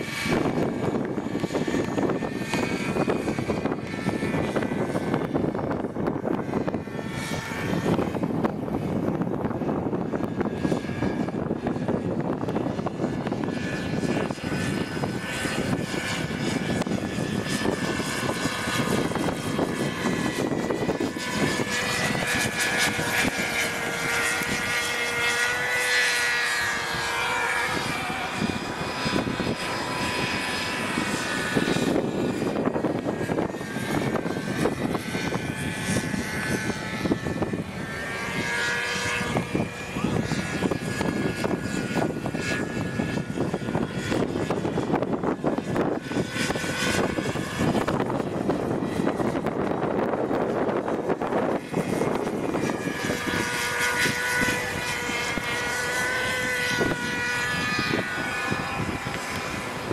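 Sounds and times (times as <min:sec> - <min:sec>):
model helicopter engine whine: 0:00.0 - 0:59.9
wind buffeting microphone: 0:00.0 - 0:59.9.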